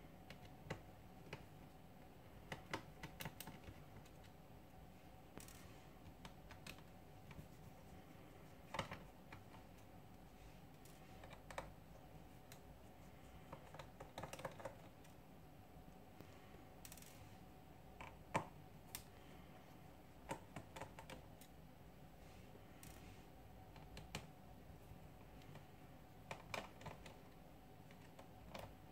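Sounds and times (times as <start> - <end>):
low room hum: 0.0 - 28.9.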